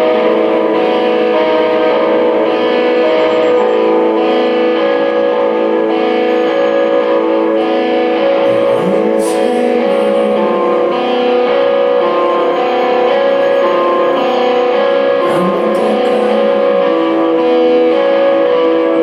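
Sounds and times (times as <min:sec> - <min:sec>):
live band with ringing guitars: 0:00.0 - 0:19.0.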